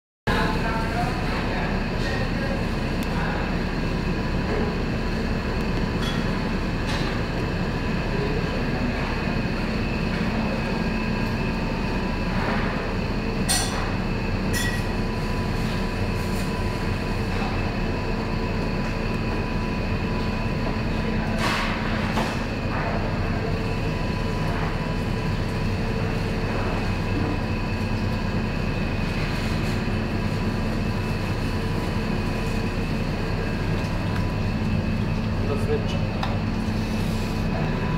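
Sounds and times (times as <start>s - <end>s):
mechanical rumble with hum: 0.3s - 37.9s.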